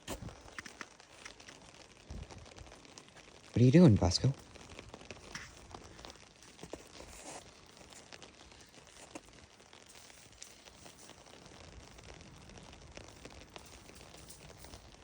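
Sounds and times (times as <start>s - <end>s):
crunching in wet melting snow: 0.0s - 15.0s.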